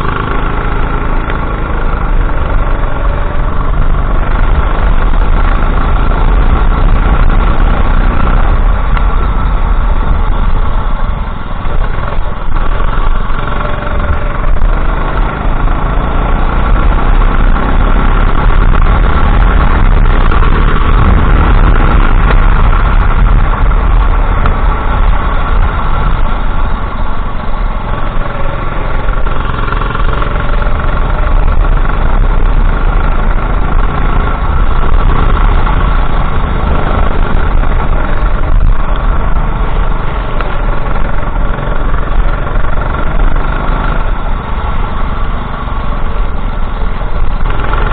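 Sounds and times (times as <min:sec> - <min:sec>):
go-kart engine revving: 0:00.0 - 0:47.9.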